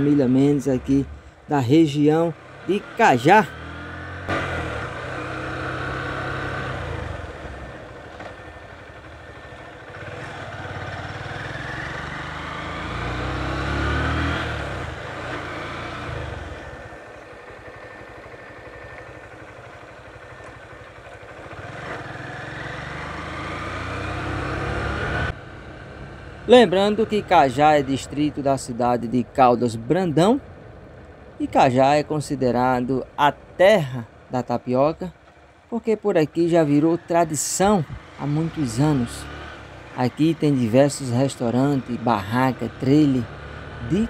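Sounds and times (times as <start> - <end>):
car engine: 0.0 - 44.0.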